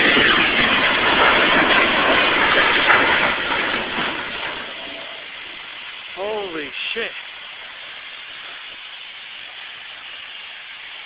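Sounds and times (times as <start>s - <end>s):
train cars crashing: 0.0s - 11.0s.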